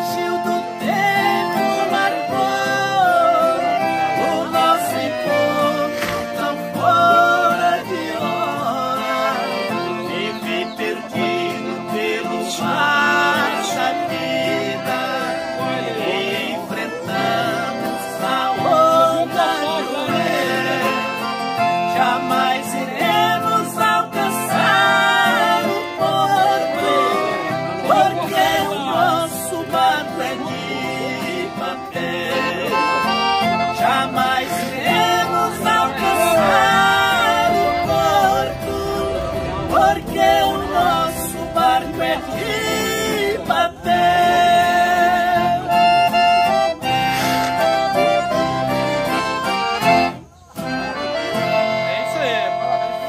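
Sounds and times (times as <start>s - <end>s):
men singing: 0.0s - 48.2s
acoustic guitars: 0.0s - 53.0s
piano accordions: 0.0s - 53.0s.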